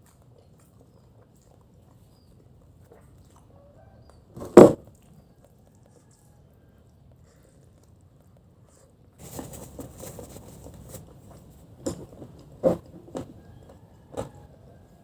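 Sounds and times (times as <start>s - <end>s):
crunchy chewing of fried chicken: 0.0s - 15.0s.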